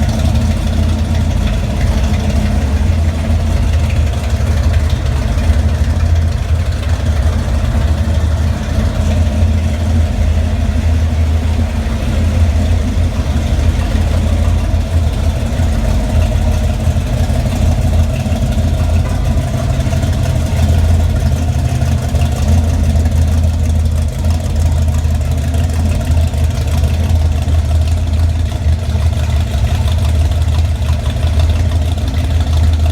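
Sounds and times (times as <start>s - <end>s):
loud rough engine idle: 0.0s - 32.9s.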